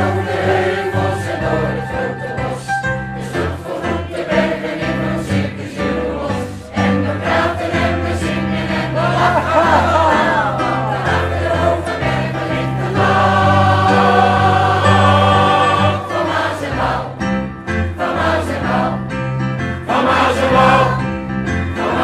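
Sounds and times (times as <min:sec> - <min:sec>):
choir singing: 0:00.0 - 0:22.0.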